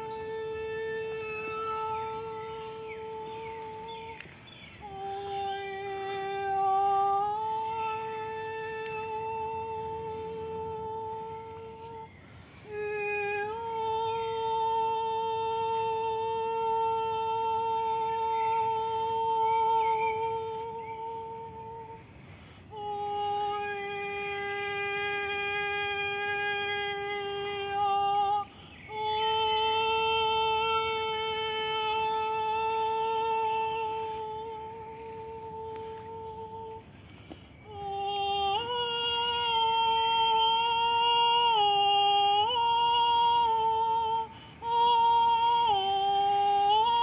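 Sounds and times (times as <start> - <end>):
woman singing wordless tones: 0.0 - 47.0.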